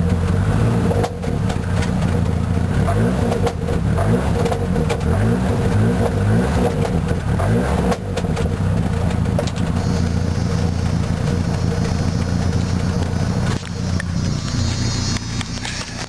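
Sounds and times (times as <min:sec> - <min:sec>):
exhaust pops: 0:00.0 - 0:16.0
loud car engine revving: 0:00.0 - 0:16.0.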